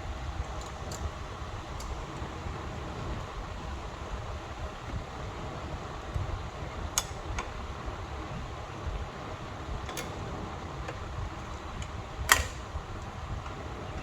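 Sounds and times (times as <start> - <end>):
shop fan humming: 0.0 - 14.0.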